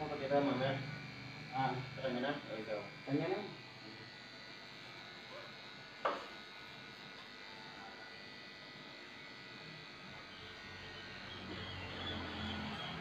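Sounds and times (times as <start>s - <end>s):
electric clipper humming: 0.0s - 13.0s.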